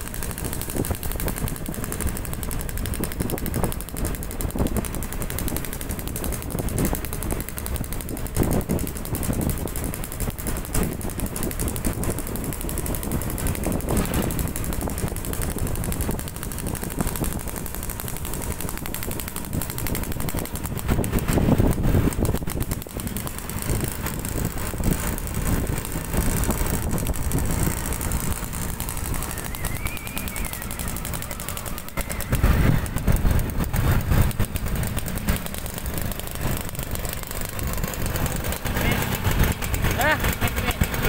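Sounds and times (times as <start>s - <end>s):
two-stroke motorcycle exhaust rattling: 0.0s - 41.0s.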